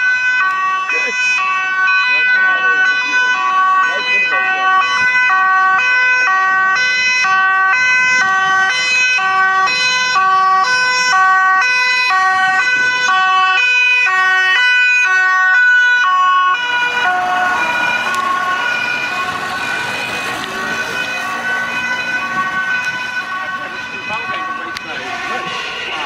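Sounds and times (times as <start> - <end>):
fire engine two-tone siren: 0.0 - 26.0
truck engine and tyres passing: 0.0 - 26.0.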